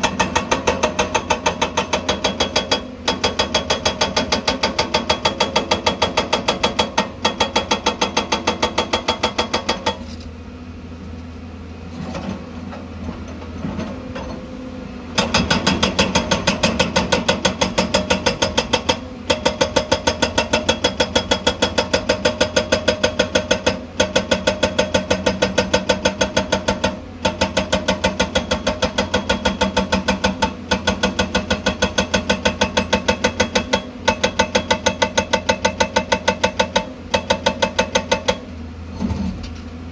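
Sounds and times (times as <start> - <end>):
hydraulic rock breaker hammering: 0.0 - 10.1, 15.2 - 39.5.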